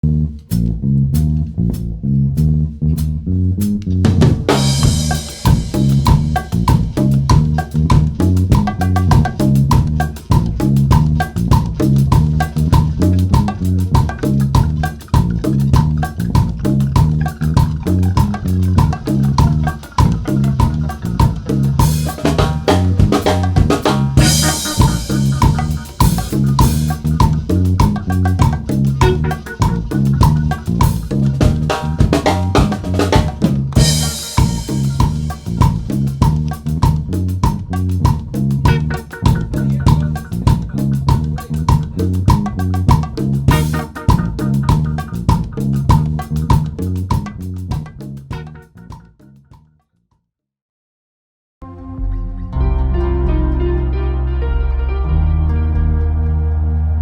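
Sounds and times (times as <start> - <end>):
band music with drum beat: 2.4 - 49.4.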